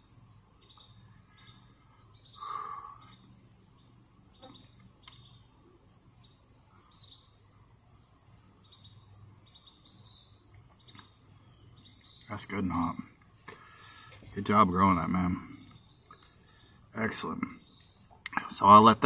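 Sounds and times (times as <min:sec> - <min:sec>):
bird rising chirp: 0:00.0 - 0:13.0, 0:15.0 - 0:18.2
low background hum: 0:00.0 - 0:19.0.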